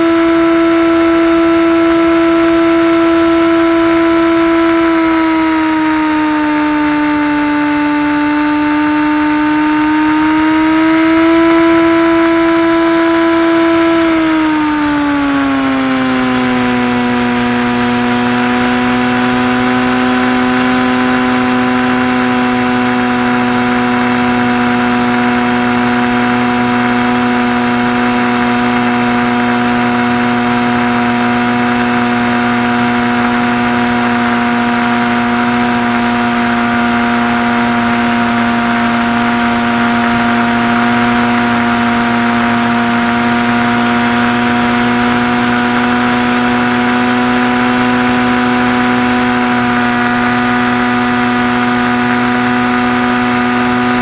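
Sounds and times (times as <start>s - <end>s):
electric motor and propeller whine: 0.0s - 54.0s.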